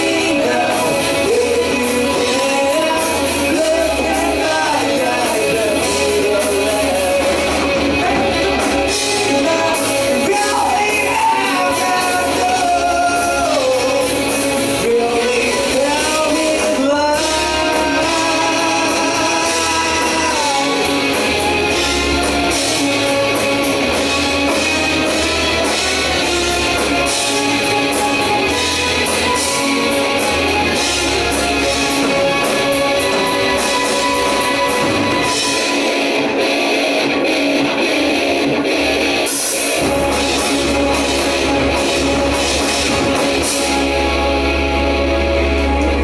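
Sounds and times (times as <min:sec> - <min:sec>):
bass guitar: 0:00.0 - 0:46.0
drum kit: 0:00.0 - 0:46.0
electric guitar: 0:00.0 - 0:46.0.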